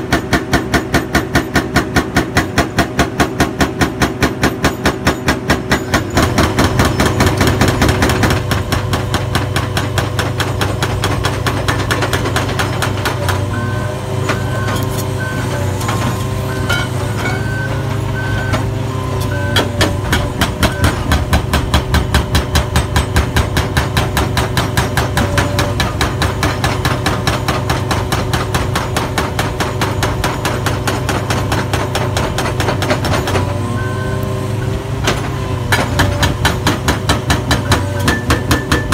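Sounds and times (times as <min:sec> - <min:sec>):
excavator engine hum: 0:00.0 - 0:38.9
hydraulic breaker hammering concrete: 0:00.0 - 0:38.9.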